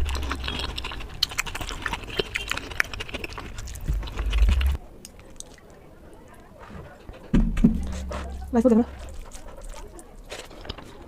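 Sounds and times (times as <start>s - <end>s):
chewing clicks and smacks: 0.0s - 5.8s, 7.8s - 11.0s.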